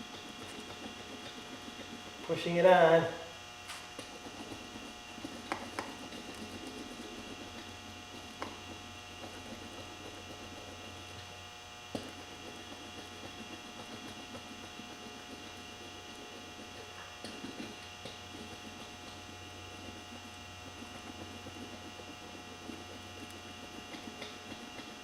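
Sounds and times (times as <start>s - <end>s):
roller scratching on tire: 0.0s - 11.4s, 12.0s - 25.0s
steady hum: 0.0s - 25.0s.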